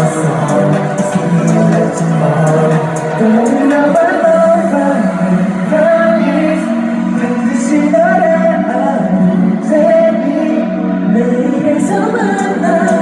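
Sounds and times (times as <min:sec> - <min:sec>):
amplified backing track: 0:00.0 - 0:13.0
group singing: 0:00.0 - 0:13.0.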